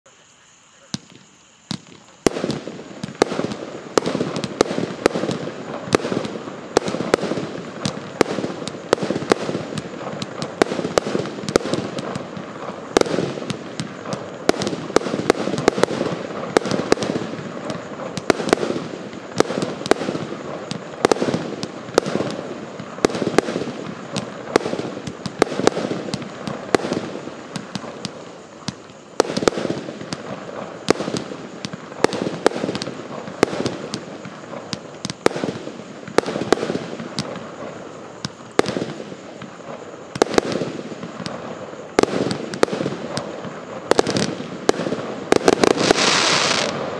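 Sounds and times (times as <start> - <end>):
firework pops and hiss: 0.1 - 46.9
firework bangs: 0.8 - 46.9.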